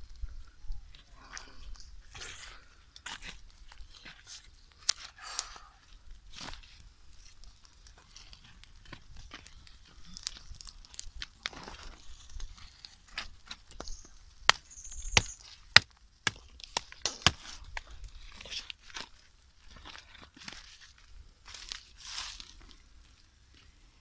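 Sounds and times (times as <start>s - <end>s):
twig fire crackling and popping: 0.0s - 24.0s.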